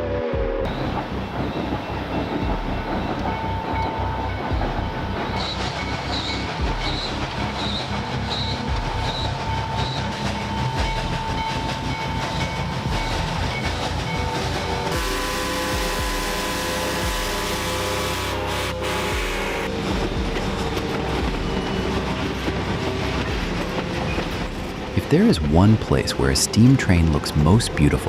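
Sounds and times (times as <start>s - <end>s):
train wheels clattering on rails: 0.7s - 28.0s.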